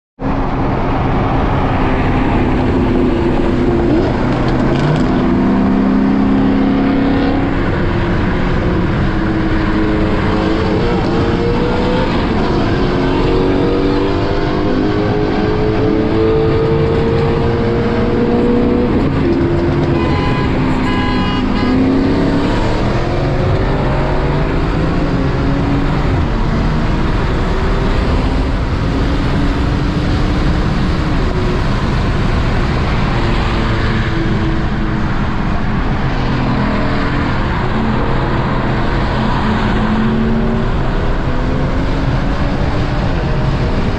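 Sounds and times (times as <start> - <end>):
car engine accelerating: 0.2 - 43.9
road and wind noise: 0.2 - 43.9.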